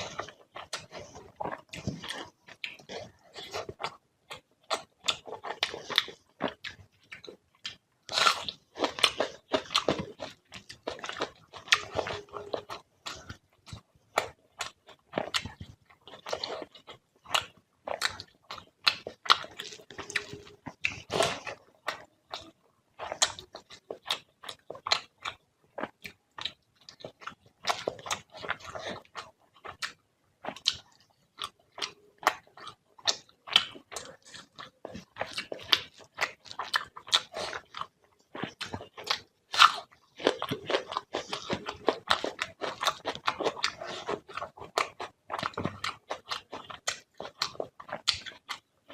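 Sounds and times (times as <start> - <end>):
wet chewing: 0.0 - 48.9.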